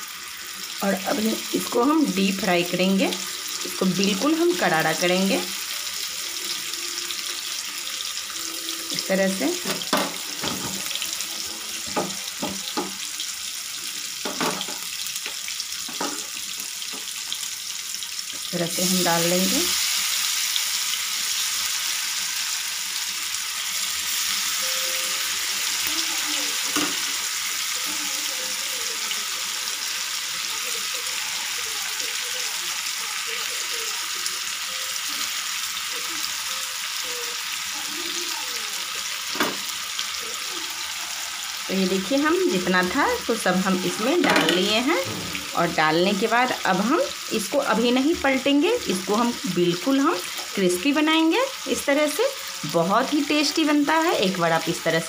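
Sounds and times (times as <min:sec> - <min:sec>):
food deep-frying in oil: 0:00.0 - 0:55.0.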